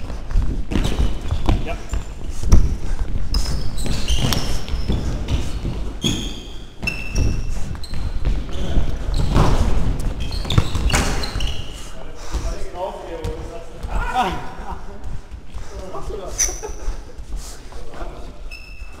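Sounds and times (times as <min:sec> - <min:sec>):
sneakers squeaking on floor: 0:00.0 - 0:14.4, 0:15.1 - 0:19.0.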